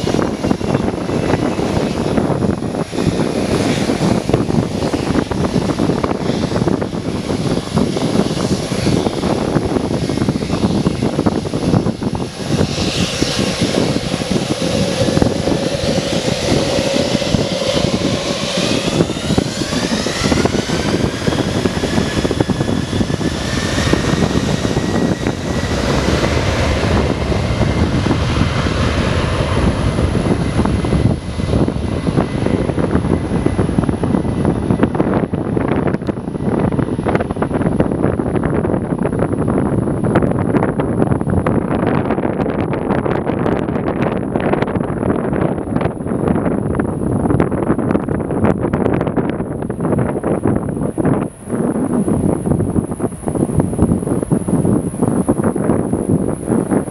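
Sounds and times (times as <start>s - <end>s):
jet engine whine: 0.0s - 56.9s
jet engines roaring: 0.0s - 56.9s.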